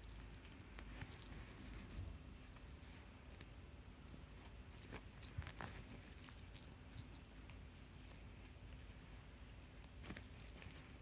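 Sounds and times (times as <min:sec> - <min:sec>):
faint rustling: 0:00.0 - 0:11.0.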